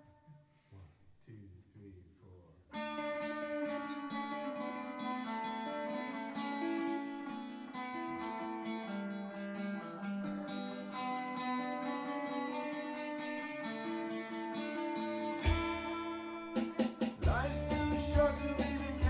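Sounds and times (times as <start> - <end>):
plucked guitar: 2.7 - 19.0.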